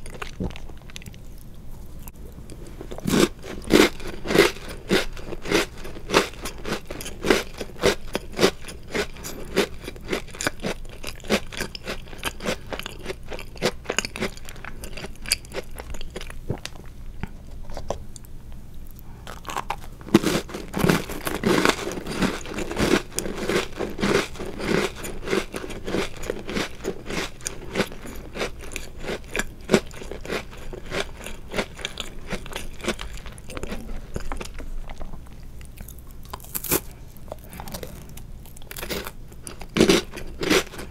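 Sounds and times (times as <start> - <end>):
cookies crunching while chewed: 0.0 - 40.9.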